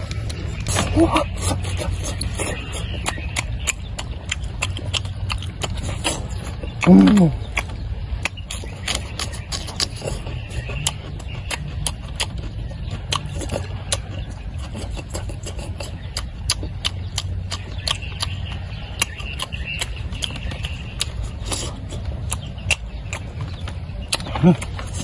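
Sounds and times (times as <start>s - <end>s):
person chewing crunchy food: 0.0s - 25.0s
steady low rumble: 0.0s - 25.0s.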